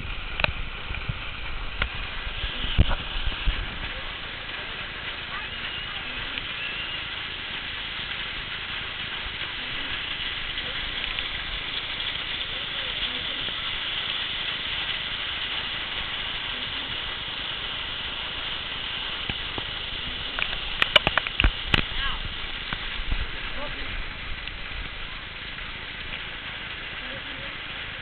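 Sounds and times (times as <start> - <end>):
hail and rain falling: 0.0 - 28.0.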